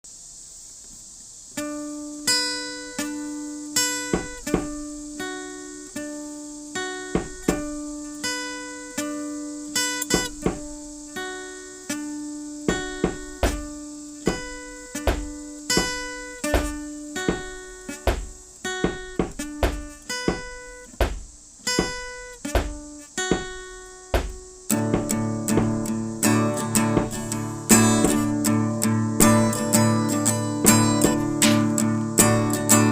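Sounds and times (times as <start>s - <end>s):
steady hiss: 0.0s - 32.9s
acoustic guitar picking: 1.6s - 32.9s.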